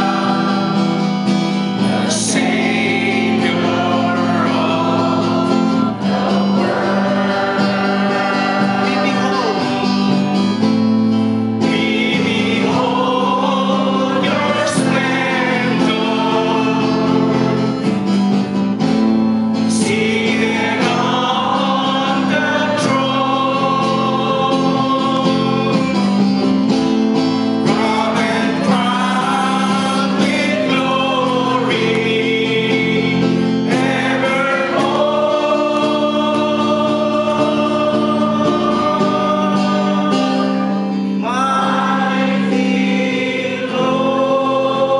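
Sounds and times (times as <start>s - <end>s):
group singing: 0.0s - 44.9s
strummed acoustic guitar: 0.0s - 44.9s.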